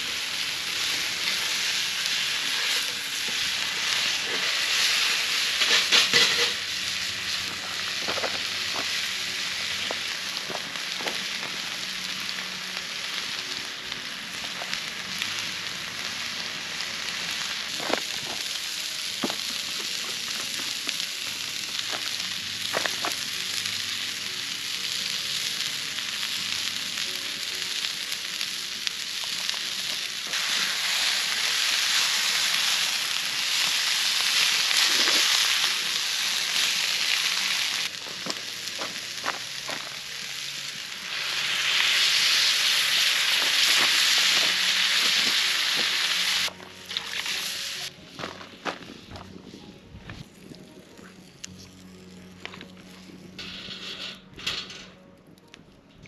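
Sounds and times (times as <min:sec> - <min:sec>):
vegetables sizzling in skillet: 0:00.0 - 0:47.9.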